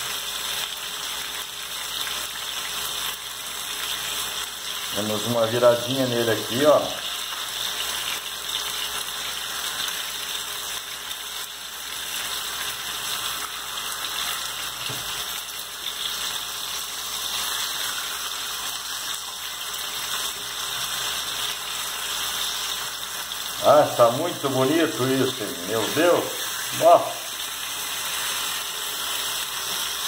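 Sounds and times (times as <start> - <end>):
chicken frying in hot oil: 0.0 - 30.0.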